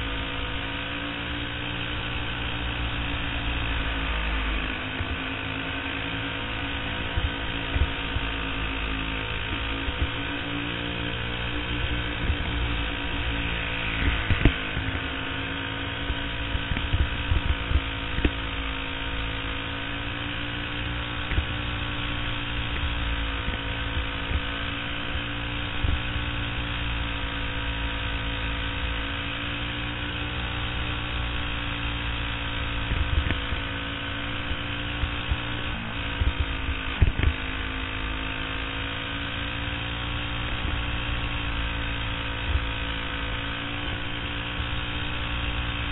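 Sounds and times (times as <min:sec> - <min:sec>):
kart engine buzzing at high revs: 0:00.0 - 0:45.9.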